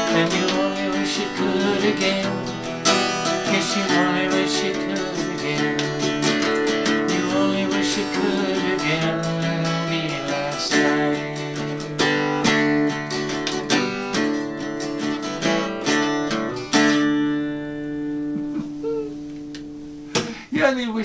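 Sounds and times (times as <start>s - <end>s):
acoustic guitar chords: 0.0s - 20.9s.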